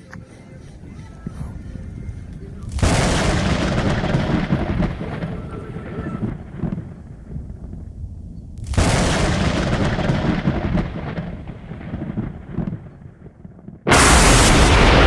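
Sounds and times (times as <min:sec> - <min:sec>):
thunder cracking and rumbling: 0:02.6 - 0:15.0.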